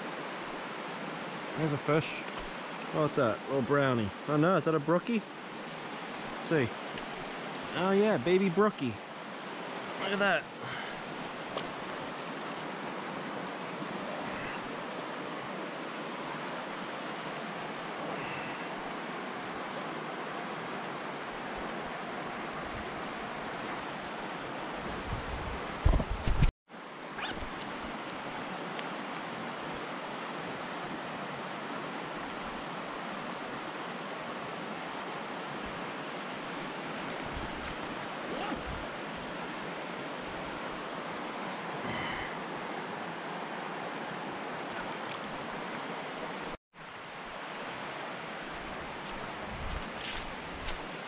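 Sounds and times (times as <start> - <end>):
stream water rushing: 0.0 - 25.9, 26.7 - 51.0.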